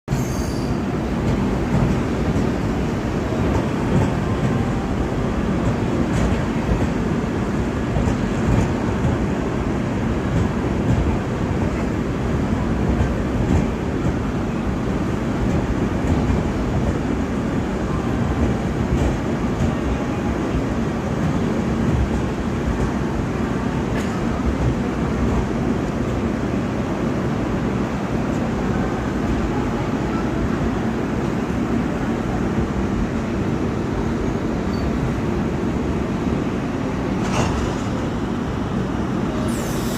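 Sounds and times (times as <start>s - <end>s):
train wheels rumbling: 0.1s - 39.9s.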